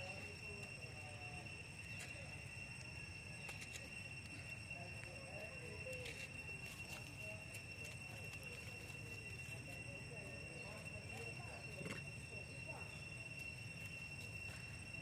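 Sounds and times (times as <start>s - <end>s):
dry leaves crackling underfoot: 0.0s - 15.0s
high-pitched insect drone: 0.0s - 15.0s.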